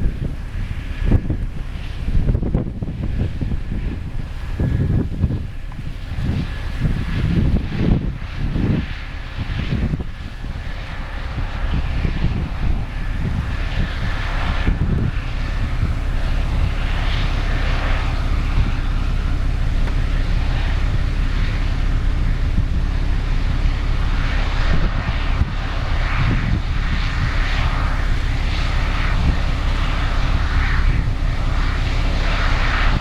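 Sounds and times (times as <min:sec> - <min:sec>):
combine diesel engine rumble: 0:00.0 - 0:33.0
rushing noise: 0:00.0 - 0:33.0.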